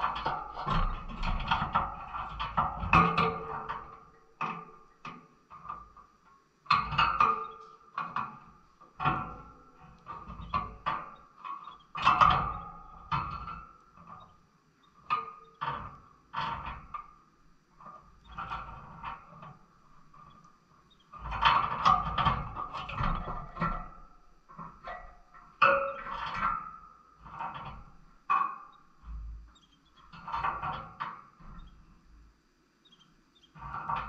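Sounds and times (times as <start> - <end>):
birds tapping on cage bars: 0.0 - 34.0.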